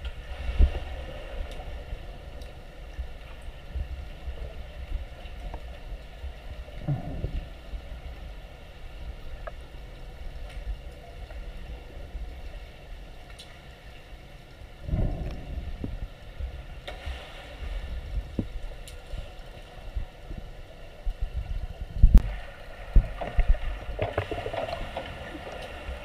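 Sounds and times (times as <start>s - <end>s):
gurgling water: 0.0s - 26.0s
underwater rumble and hiss: 0.0s - 26.0s.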